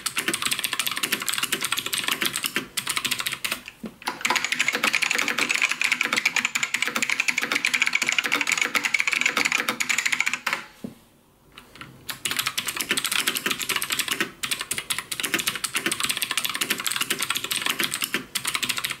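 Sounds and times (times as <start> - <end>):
mechanical keyboard typing: 0.0 - 10.7, 12.1 - 19.0.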